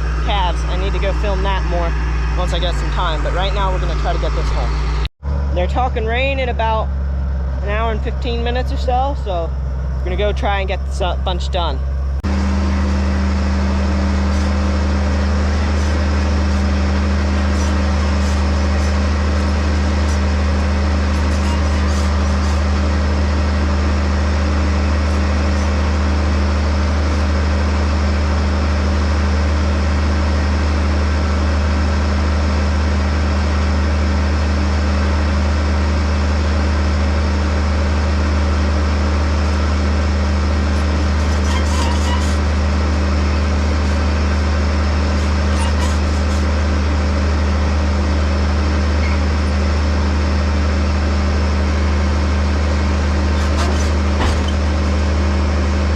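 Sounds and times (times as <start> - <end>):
farm vehicle engine running: 0.0 - 55.9.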